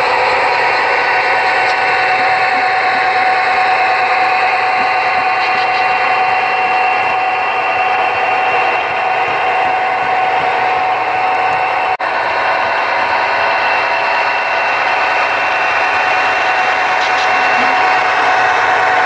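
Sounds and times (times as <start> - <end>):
model train rolling: 0.0 - 19.0
steady whine: 0.0 - 19.0.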